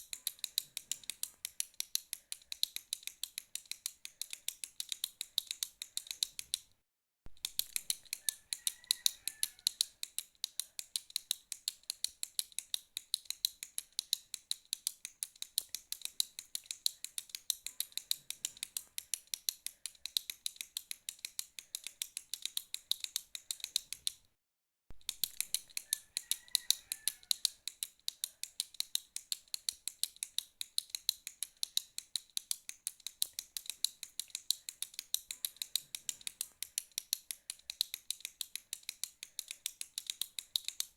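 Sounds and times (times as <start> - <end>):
pen clicking: 0.0 - 6.7, 7.4 - 24.3, 25.0 - 40.9.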